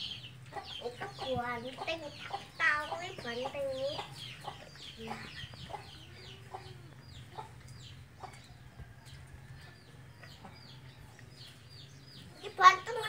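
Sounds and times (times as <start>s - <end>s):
chickens clucking and cheeping: 0.0s - 13.0s.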